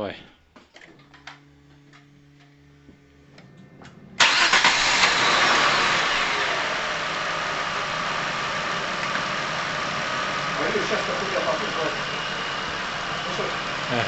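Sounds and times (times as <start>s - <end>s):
car engine starting and idling: 0.9s - 14.0s.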